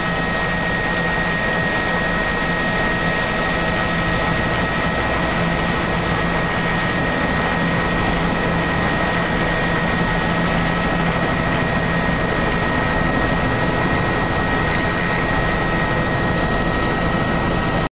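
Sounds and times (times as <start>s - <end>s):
vehicle engine with high whine: 0.0s - 17.9s.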